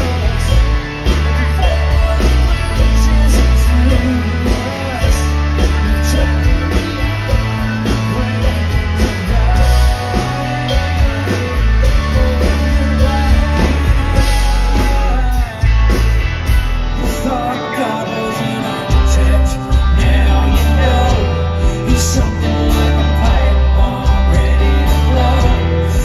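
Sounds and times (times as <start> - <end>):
person singing: 0.0 - 16.2, 16.9 - 26.0
live rock band: 0.0 - 26.0.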